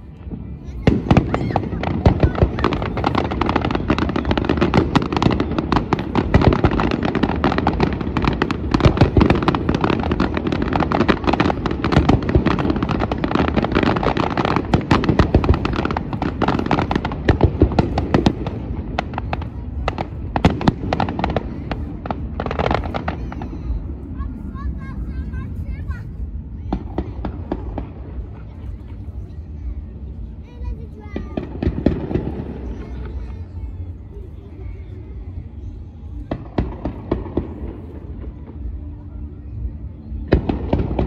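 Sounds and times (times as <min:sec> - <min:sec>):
fireworks cracks and bangs: 0:00.0 - 0:34.5, 0:35.5 - 0:39.0, 0:39.6 - 0:41.0.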